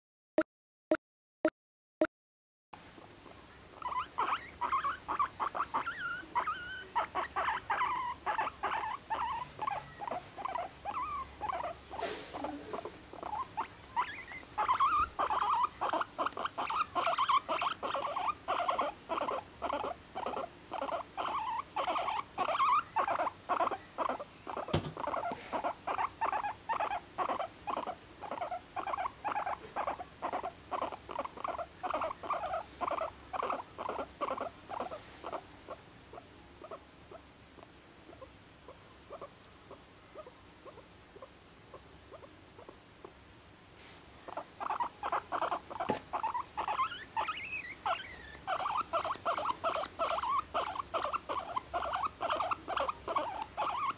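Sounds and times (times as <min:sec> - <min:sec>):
guinea pig squeaking: 0:03.2 - 0:43.2, 0:44.2 - 0:53.9.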